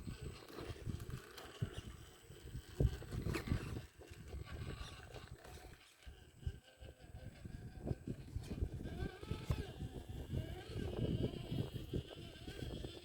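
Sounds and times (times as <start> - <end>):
toy truck crawling over rocks: 0.0 - 13.0.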